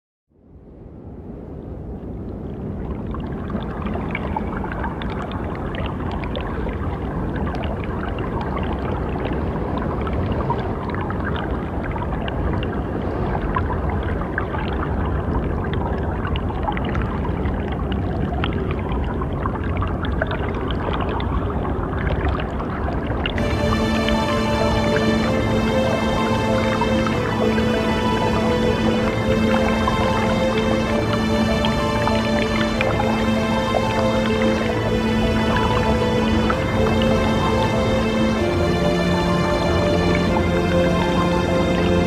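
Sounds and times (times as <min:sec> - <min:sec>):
running water: 0:02.6 - 0:42.0.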